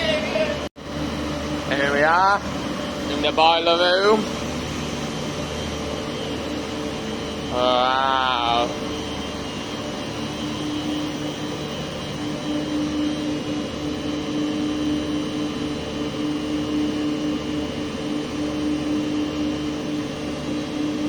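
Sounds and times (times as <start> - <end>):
steady pitched hum: 0.0 - 21.0.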